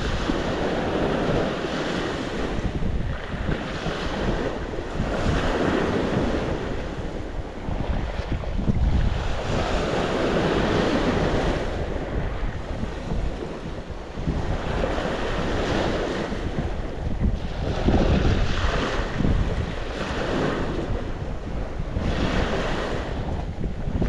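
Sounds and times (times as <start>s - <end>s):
sea waves breaking: 0.0s - 24.0s
wind rumbling on microphone: 0.0s - 24.0s.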